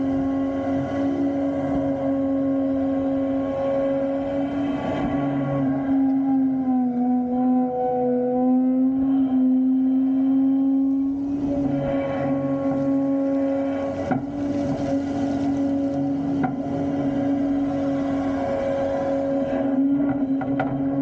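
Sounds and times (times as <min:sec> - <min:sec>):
excavator engine and hydraulics hum: 0:00.0 - 0:21.0.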